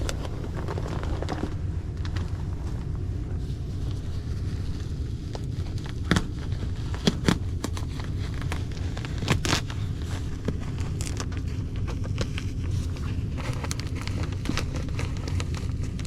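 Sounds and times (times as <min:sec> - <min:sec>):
ductwork crinkling and crackling: 0:00.0 - 0:16.0
steady low rumble: 0:00.0 - 0:16.0.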